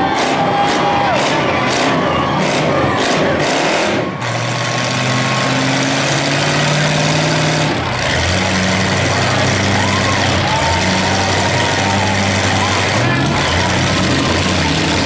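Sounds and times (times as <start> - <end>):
car engines idling and running: 0.0 - 15.0.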